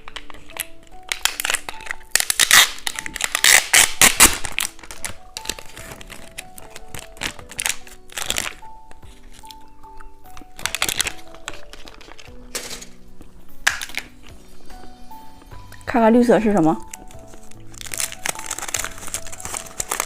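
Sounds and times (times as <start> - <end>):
plastic wrapper crinkling and tearing: 0.0 - 14.4, 16.8 - 20.0
background music plinking melody: 0.0 - 20.0.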